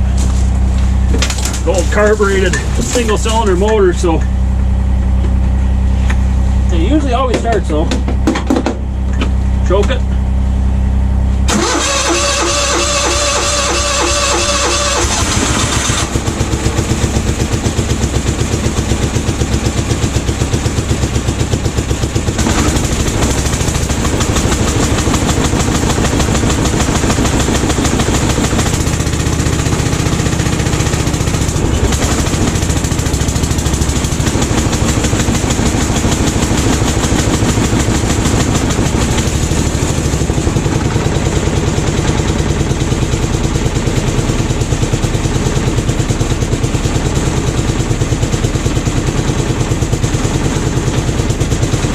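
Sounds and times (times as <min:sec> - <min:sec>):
single-cylinder engine running: 0:00.0 - 0:51.9.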